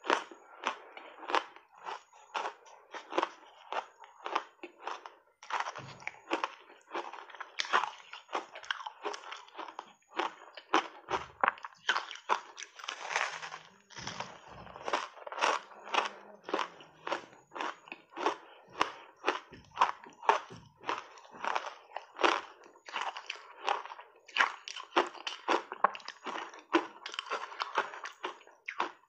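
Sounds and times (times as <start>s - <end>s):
crunching and chewing ice: 0.0s - 29.0s.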